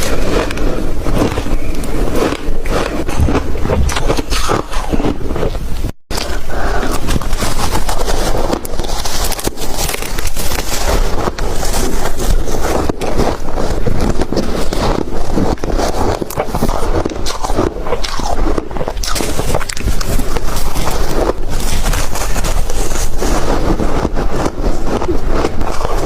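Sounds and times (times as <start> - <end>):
ice crunching being chewed: 0.0 - 26.0.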